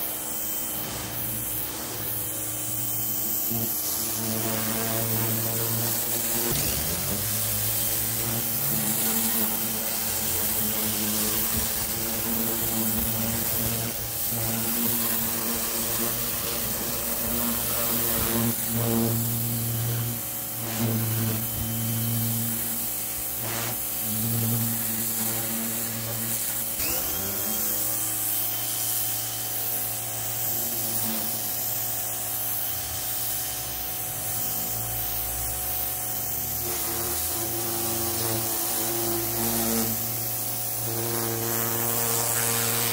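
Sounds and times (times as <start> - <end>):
pressure washer motor humming: 0.0 - 42.9
water jet spraying on stone: 0.0 - 42.9.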